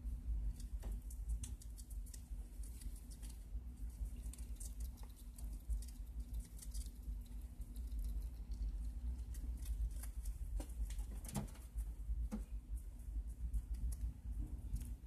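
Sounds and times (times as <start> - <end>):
low background hum: 0.0 - 15.0
rat teeth nibbling leaves: 0.3 - 11.9, 12.7 - 15.0.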